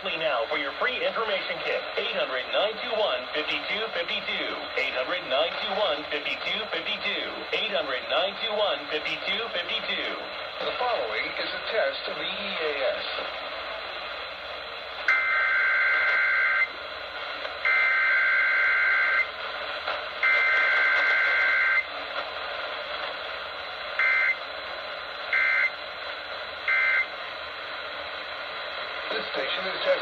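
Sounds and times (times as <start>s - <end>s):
broadcast hiss: 0.0s - 30.0s.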